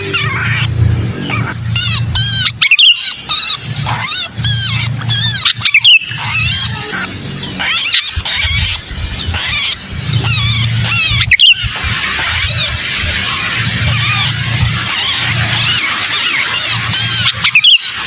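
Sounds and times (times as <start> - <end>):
steady low rumble: 0.0 - 15.8
bird distress calls: 0.0 - 18.0.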